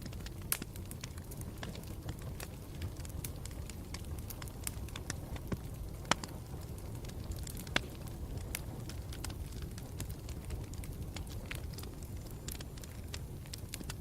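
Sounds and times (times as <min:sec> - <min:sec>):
campfire rumble: 0:00.0 - 0:14.0
fire crackling and popping: 0:00.0 - 0:14.0.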